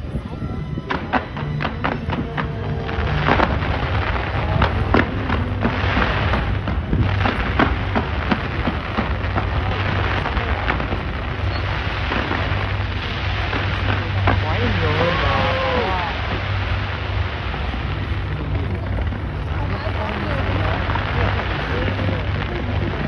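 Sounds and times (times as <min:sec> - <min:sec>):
fireworks bangs: 0:00.0 - 0:23.0
fireworks crackling hiss: 0:00.0 - 0:23.0.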